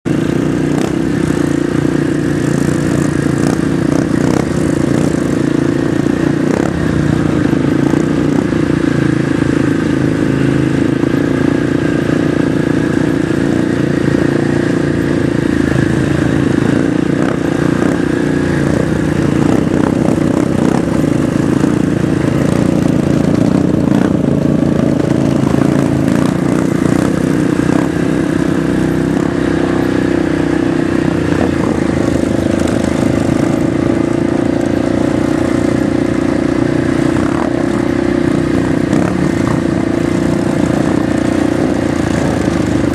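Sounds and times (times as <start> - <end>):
off-road vehicle engine running: 0.0 - 42.9.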